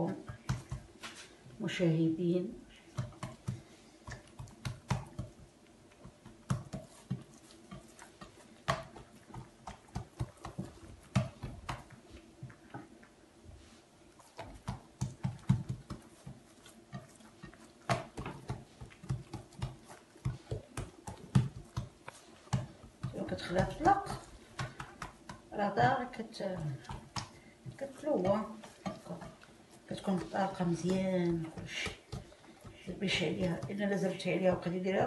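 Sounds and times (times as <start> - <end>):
dough slapping in a dish: 0.0 - 1.6, 2.8 - 35.0.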